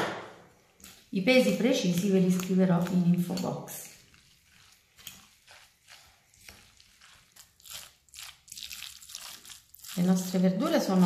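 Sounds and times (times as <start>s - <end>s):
fork mixing in glass bowl: 0.8s - 11.0s.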